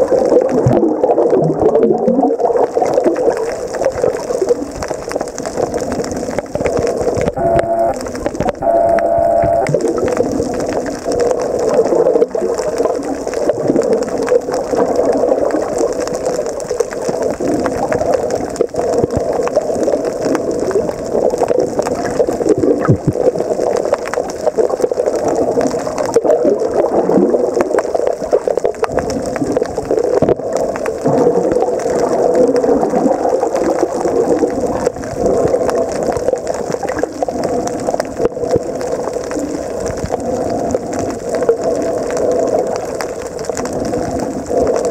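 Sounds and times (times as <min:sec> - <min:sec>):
faint crackling clicks: 0:00.0 - 0:44.9
muffled underwater rush: 0:00.0 - 0:44.9.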